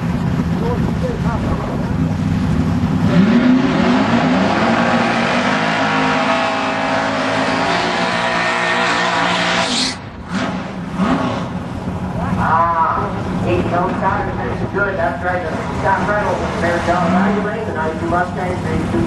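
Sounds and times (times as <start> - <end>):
drag racing car engine revving: 0.0 - 19.0.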